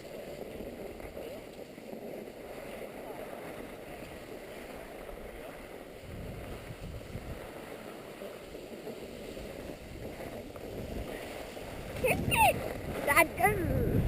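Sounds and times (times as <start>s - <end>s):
skis sliding over snow: 0.0s - 14.0s
wind on microphone: 0.0s - 14.0s.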